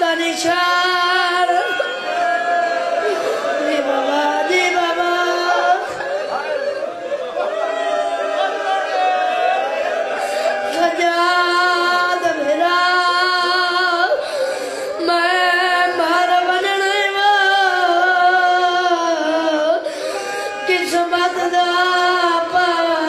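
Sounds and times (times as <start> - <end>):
person singing a lament: 0.0 - 7.7, 8.5 - 23.0.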